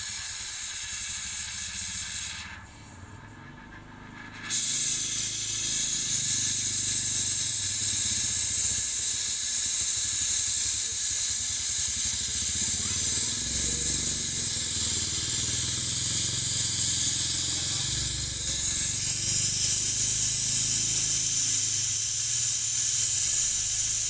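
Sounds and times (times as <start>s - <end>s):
gas torch flame hissing: 0.0s - 24.0s.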